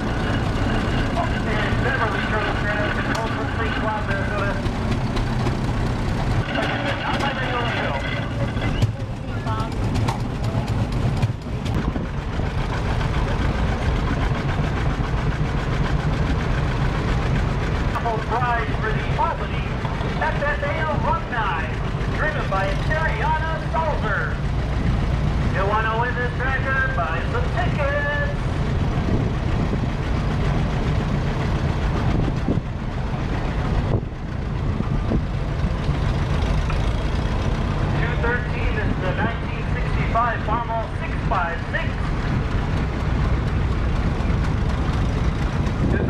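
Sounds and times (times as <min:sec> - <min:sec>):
tractor engine driving past: 0:00.0 - 0:46.0.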